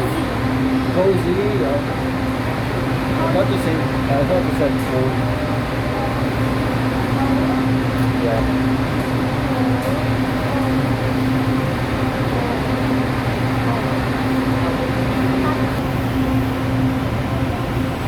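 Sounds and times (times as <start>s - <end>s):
air-conditioning blowing: 0.0s - 18.0s
train car hum and rumble: 0.0s - 18.0s.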